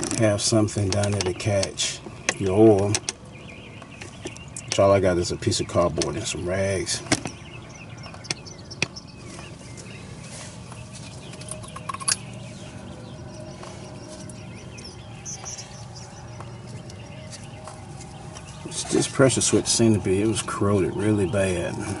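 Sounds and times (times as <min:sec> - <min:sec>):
steady low hum: 0:00.0 - 0:22.0
faint bird chirps: 0:02.1 - 0:22.0.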